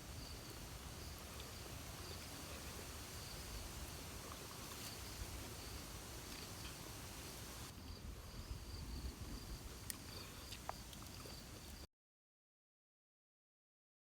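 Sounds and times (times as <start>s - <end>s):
insects trilling: 0.0s - 11.8s.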